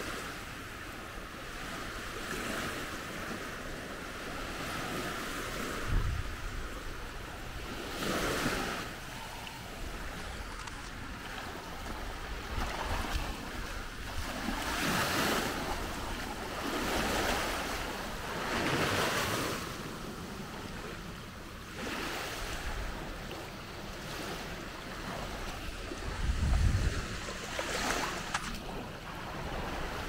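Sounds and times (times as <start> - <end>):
small waves washing over shallows: 0.0 - 30.0
wind rumbling on microphone: 3.8 - 21.0, 21.9 - 30.0.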